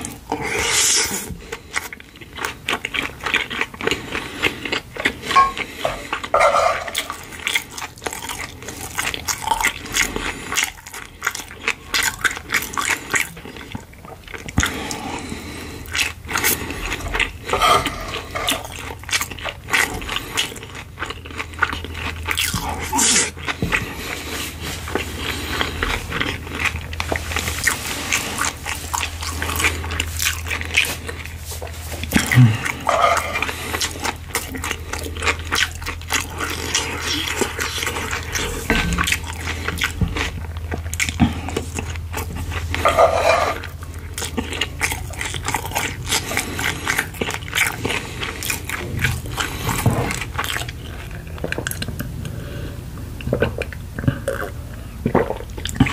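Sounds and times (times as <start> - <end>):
soft chewing crunches: 0.0 - 55.9.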